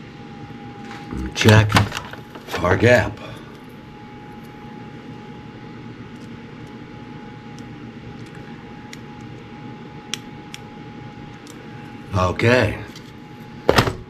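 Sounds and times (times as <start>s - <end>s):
low mechanical drone: 0.0s - 14.0s
thin steady whine: 0.0s - 14.0s.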